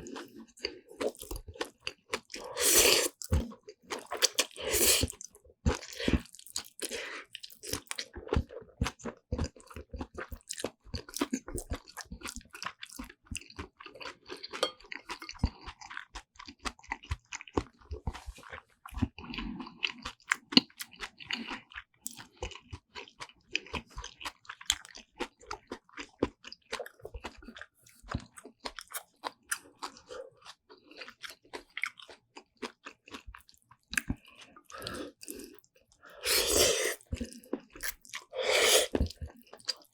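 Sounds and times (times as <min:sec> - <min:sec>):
close-miked chewing and crunching: 0:00.0 - 0:39.9.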